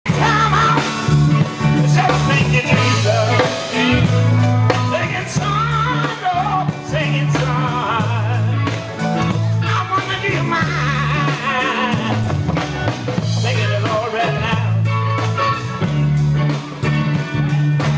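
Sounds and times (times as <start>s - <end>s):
steady bass line: 0.0s - 17.9s
gospel group singing: 0.1s - 16.1s
guitar accompaniment: 0.1s - 17.9s.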